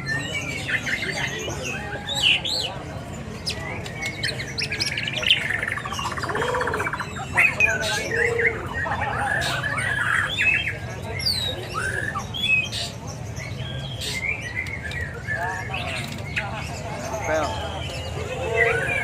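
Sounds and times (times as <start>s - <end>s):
songbirds chirping and squawking: 0.0s - 19.0s.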